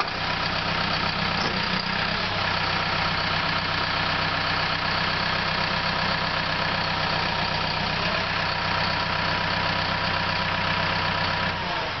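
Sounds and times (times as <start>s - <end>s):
dozer diesel engine idling: 0.0s - 12.0s.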